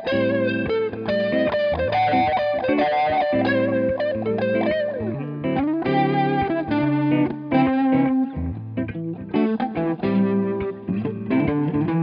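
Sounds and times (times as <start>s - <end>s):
electric guitars with rotary effect: 0.0s - 12.0s.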